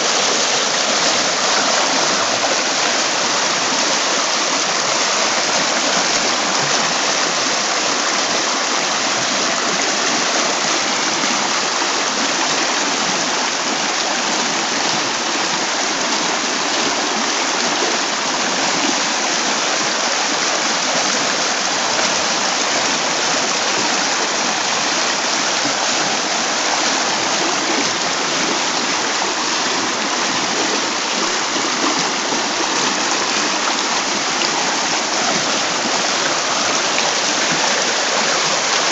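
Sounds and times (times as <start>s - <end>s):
river water rushing over stones: 0.0s - 38.9s.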